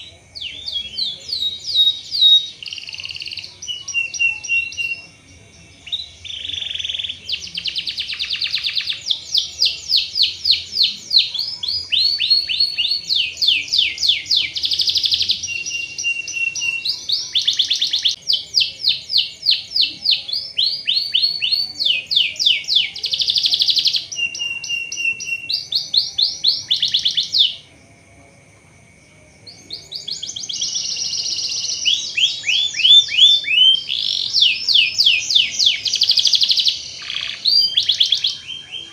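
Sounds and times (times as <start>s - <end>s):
canary singing trills: 0.0s - 27.7s, 29.4s - 38.9s.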